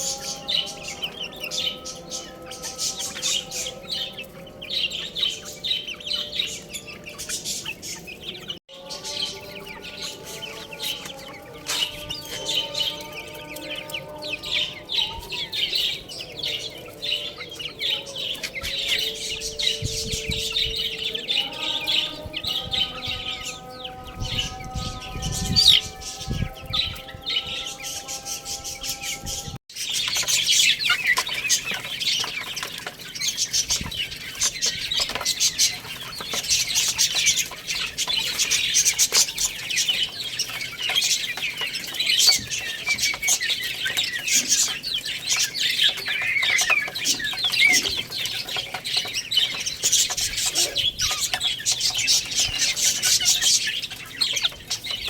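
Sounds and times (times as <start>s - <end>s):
baby chicks peeping: 0.0s - 55.0s.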